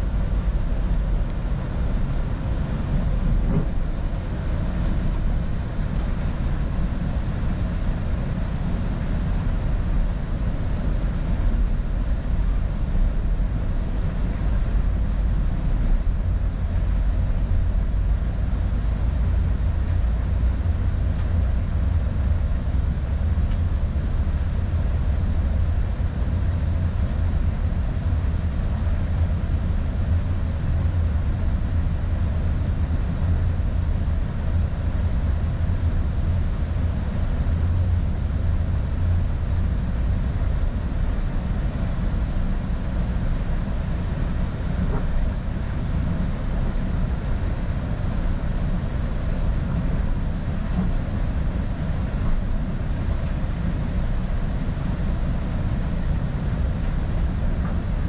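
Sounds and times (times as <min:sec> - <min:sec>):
train low rumble on board: 0:00.0 - 0:58.0.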